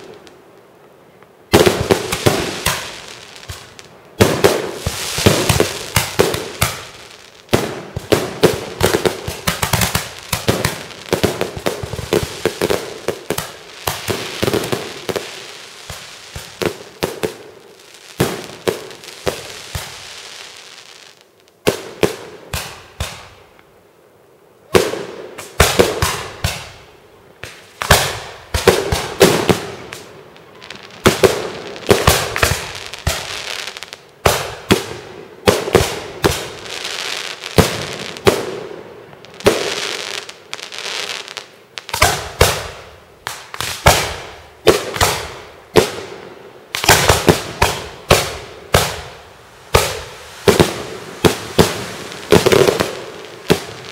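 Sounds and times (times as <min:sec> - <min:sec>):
fireworks bangs: 0:00.0 - 0:00.4, 0:01.5 - 0:23.4, 0:24.7 - 0:53.9
fireworks crackling hiss: 0:00.0 - 0:53.9.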